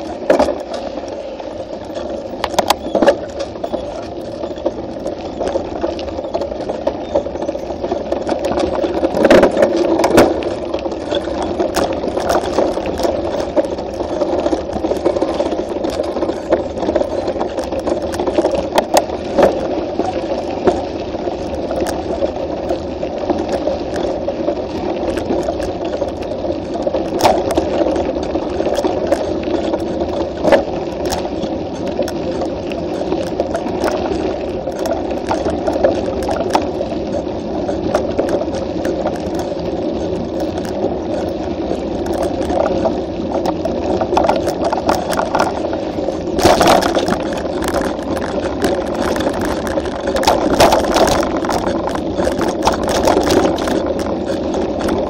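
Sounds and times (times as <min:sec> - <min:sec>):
bike rattling: 0:00.0 - 0:55.0
bike tyres rumbling on dirt: 0:00.0 - 0:55.0.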